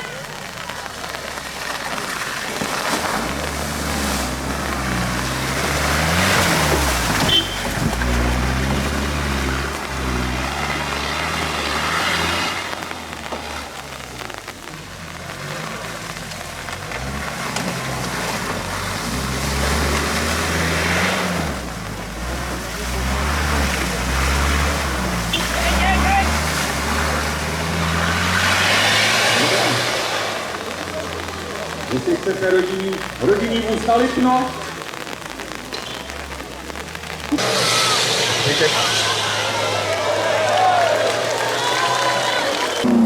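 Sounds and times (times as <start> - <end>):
tractor engine revving: 0.0 - 43.0.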